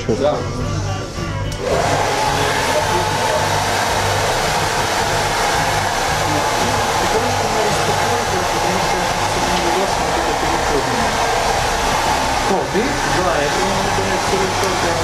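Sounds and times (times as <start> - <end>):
hair dryer running: 1.6 - 15.0.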